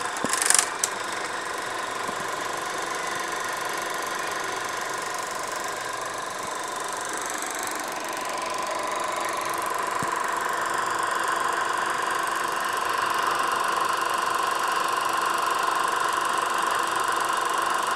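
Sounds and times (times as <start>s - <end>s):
film projector running: 0.0s - 17.9s.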